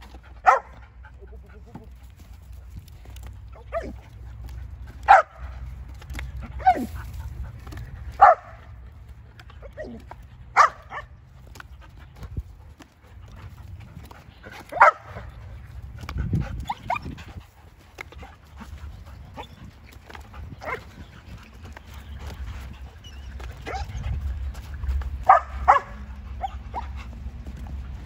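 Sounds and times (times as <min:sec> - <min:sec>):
dogs barking excitedly: 0:00.0 - 0:28.0.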